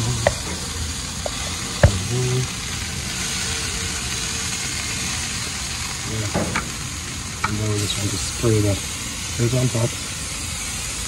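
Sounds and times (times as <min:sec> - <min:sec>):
fish sizzling on a grill: 0:00.0 - 0:11.0.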